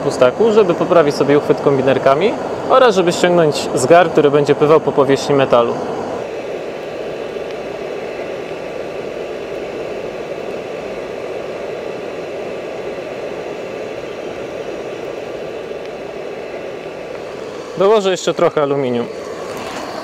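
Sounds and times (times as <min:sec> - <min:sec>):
blower and furnace rushing: 0:00.0 - 0:20.0.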